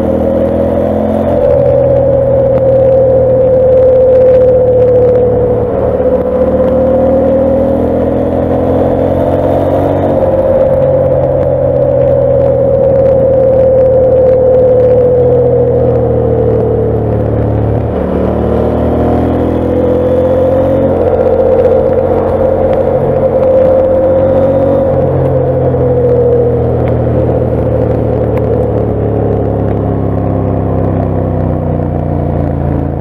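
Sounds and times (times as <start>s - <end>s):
motorcycle engine at speed: 0.0s - 33.0s.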